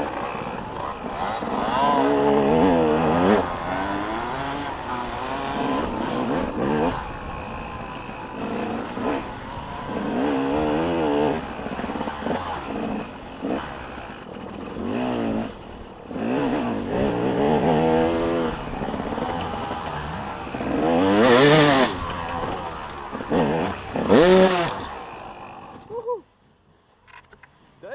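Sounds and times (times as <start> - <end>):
motocross bikes revving: 0.0 - 26.1.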